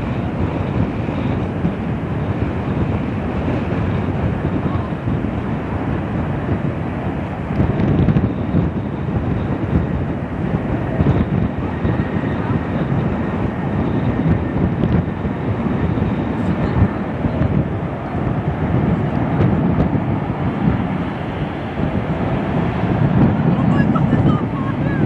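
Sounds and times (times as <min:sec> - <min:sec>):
jet engines rumbling: 0:00.0 - 0:25.0
wind buffeting microphone: 0:00.0 - 0:25.0.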